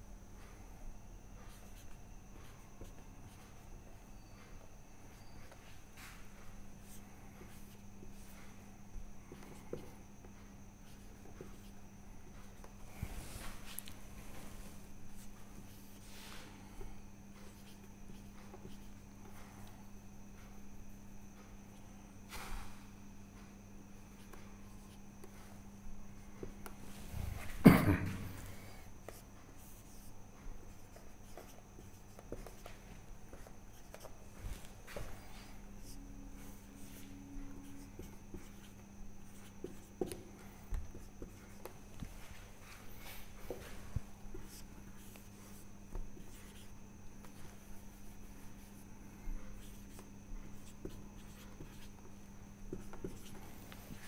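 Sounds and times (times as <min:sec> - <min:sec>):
marker strokes on a whiteboard: 0:01.4 - 0:27.6, 0:28.4 - 0:54.0.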